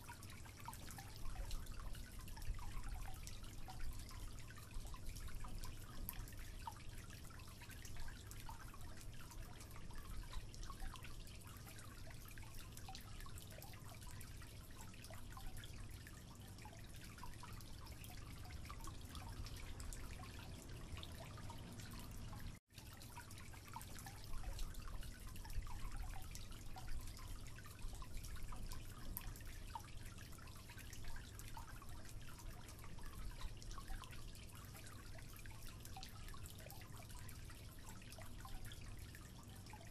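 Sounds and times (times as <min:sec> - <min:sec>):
water dripping into sink: 0:00.0 - 0:39.9.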